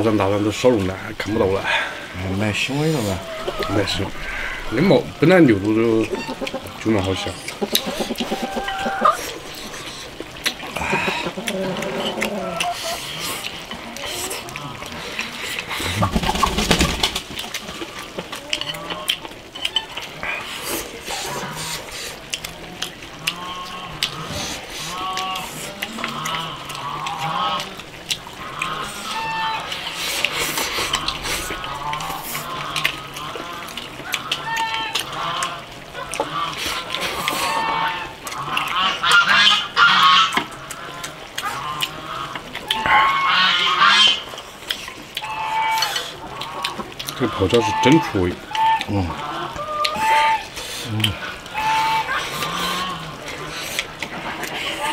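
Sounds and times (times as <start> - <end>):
slurping and chewing: 0.8 - 54.9
farm fowl calling: 0.9 - 16.8, 17.6 - 44.5, 45.2 - 54.9.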